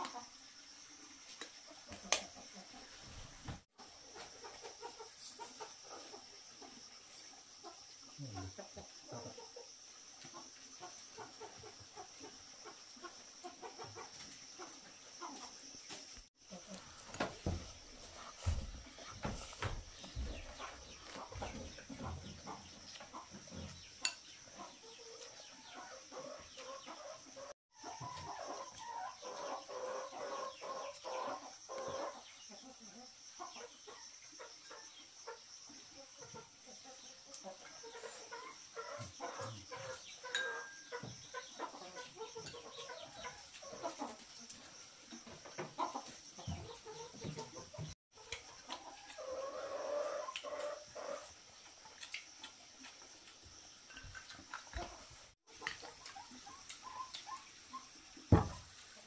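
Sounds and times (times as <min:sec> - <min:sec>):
steady high-pitched hiss: 0:00.0 - 0:59.0
chickens clucking: 0:03.8 - 0:53.0, 0:53.9 - 0:59.0.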